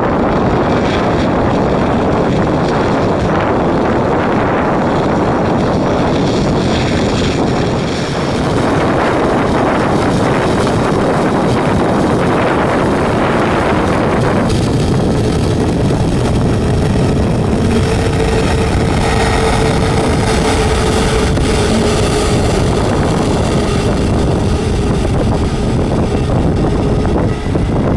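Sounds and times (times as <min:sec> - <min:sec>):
jet engine rush: 0:00.0 - 0:27.9
wind buffeting microphone: 0:00.0 - 0:27.9.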